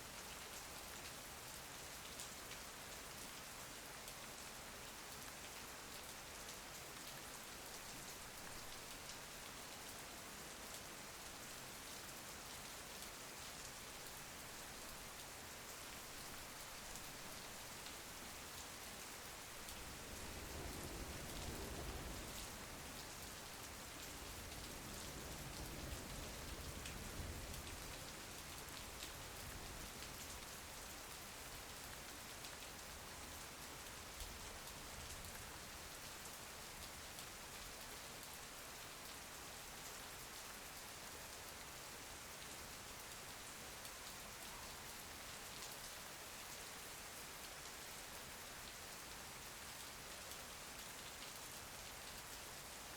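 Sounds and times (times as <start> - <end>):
rain falling: 0.1 - 52.9.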